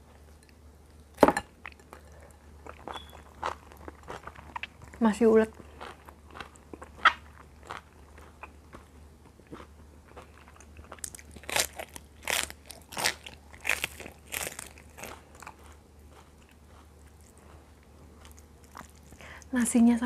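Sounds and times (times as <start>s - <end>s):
person chewing crunchily: 1.7s - 19.2s.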